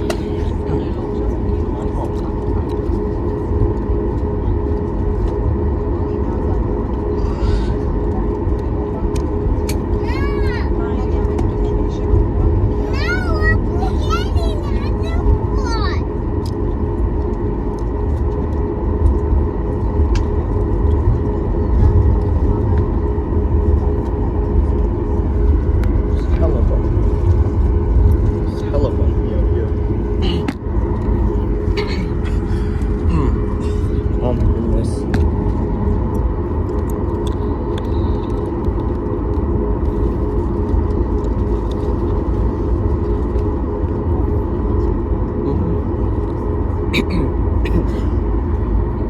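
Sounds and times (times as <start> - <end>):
airplane cabin rumble: 0.0 - 49.0
faint steady hum: 0.0 - 49.0.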